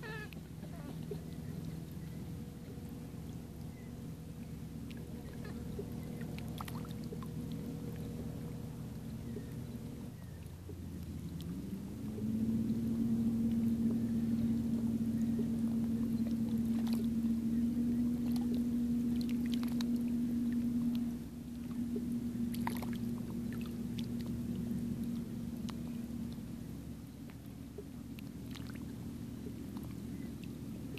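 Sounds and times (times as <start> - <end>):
motorboat engine droning: 0.0 - 30.9.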